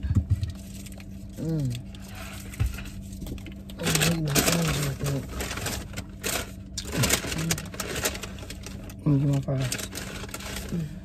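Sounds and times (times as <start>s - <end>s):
paper wrappers crinkling: 0.5s - 11.0s.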